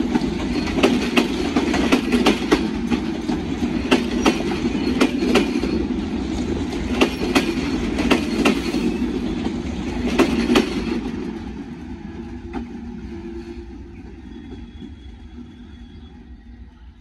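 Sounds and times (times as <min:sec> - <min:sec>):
train wheels clacking: 0:00.0 - 0:16.0
train rumbling: 0:00.0 - 0:17.0.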